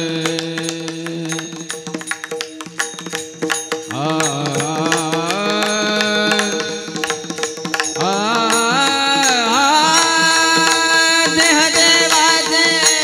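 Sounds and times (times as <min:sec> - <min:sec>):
person singing: 0:00.0 - 0:02.0, 0:03.9 - 0:13.0
rapid dense percussion: 0:00.0 - 0:13.0.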